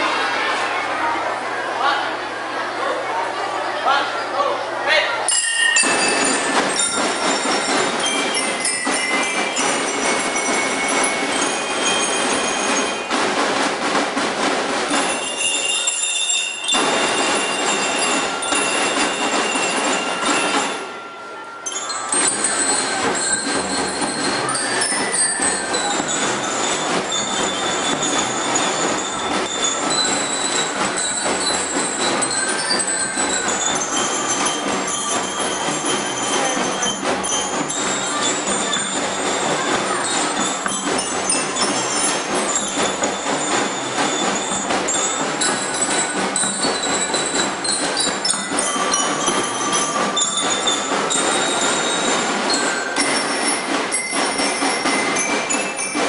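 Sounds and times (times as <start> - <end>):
bell lyre notes: 5.3 - 13.2, 14.9 - 56.0
fast dense drumming: 5.8 - 20.9, 21.6 - 56.0.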